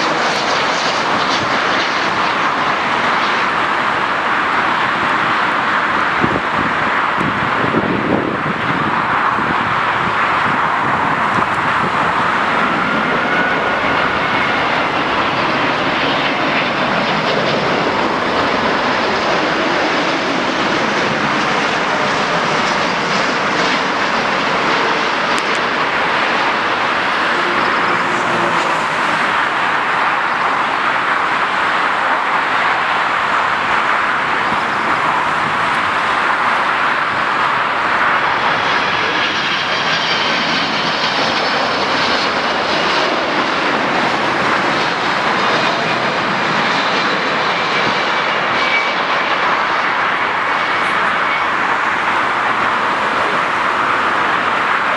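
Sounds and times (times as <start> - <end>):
jet engines roaring: 0.0 - 54.9.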